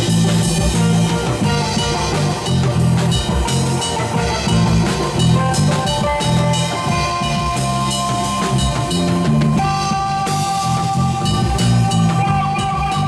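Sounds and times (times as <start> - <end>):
bass line: 0.0 - 13.0
drum kit beat: 0.0 - 13.0
electric guitar notes: 0.0 - 13.0.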